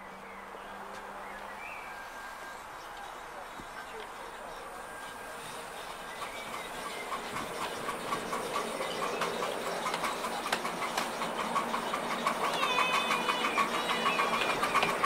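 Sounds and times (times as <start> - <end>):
steam locomotive chuffing: 1.9 - 15.0.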